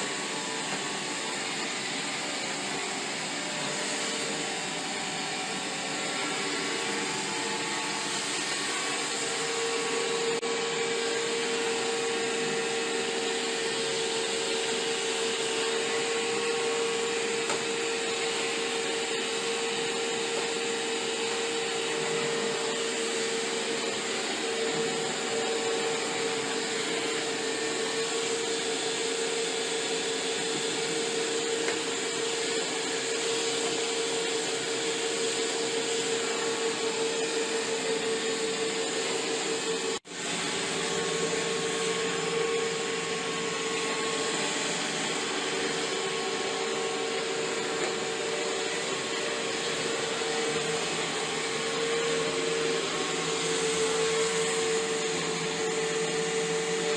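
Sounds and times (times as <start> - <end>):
robot vacuum whirring: 0.0 - 56.9.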